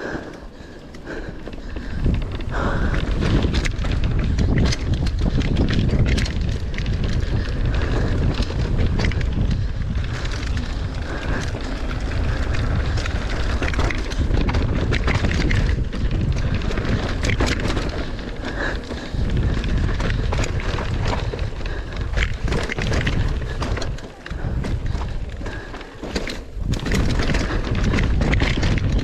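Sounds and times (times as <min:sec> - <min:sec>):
bike rattling over rough ground: 0:00.0 - 0:29.0
wind noise on microphone: 0:00.0 - 0:29.0.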